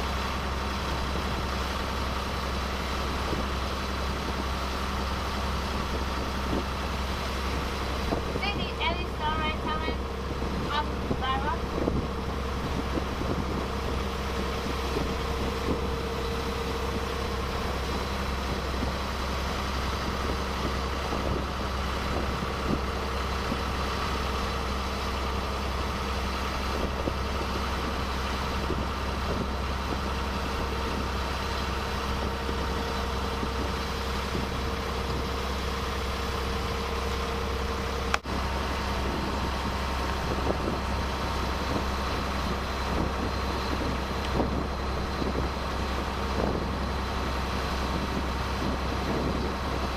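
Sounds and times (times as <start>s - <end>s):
boat engine droning: 0.0s - 49.9s.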